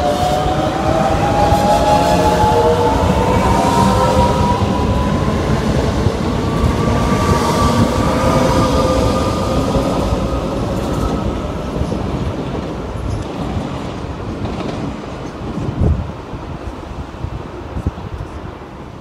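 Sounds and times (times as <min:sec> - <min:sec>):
train wheels rumbling on rails: 0:00.0 - 0:19.0
train whine: 0:00.0 - 0:19.0.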